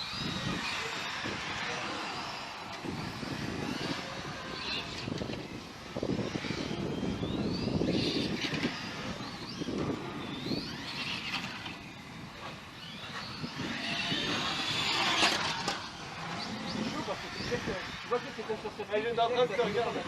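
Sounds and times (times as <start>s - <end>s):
toy car motor whining: 0.0s - 20.0s
tyre and ground noise: 0.0s - 20.0s.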